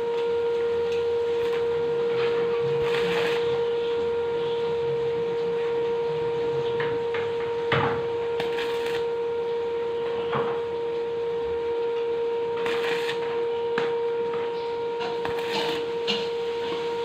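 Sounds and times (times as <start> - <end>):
welding machine hum: 0.0 - 17.0.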